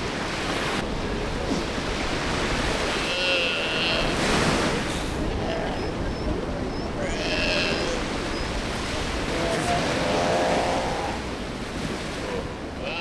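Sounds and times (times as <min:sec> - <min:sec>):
surf washing: 0:00.0 - 0:13.0
wind: 0:00.0 - 0:13.0.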